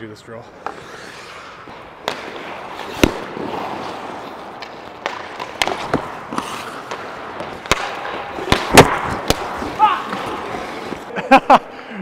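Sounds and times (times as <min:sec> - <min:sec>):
skates scraping on ice: 0:00.0 - 0:11.8
sharp cracks of sticks and pucks: 0:00.5 - 0:11.8.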